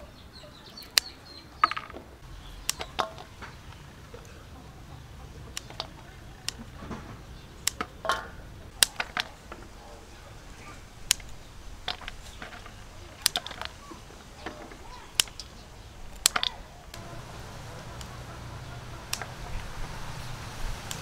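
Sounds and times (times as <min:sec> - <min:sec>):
knife cutting stems: 0:02.4 - 0:04.4, 0:05.3 - 0:21.0.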